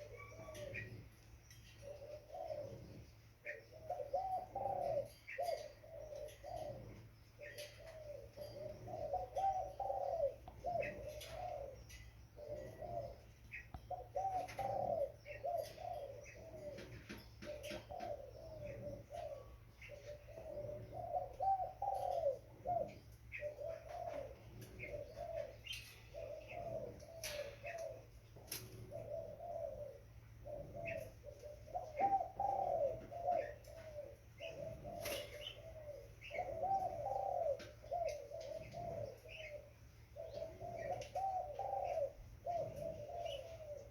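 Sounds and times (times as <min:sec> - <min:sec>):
dove cooing: 0:00.0 - 0:43.9
low steady hum: 0:00.0 - 0:43.9.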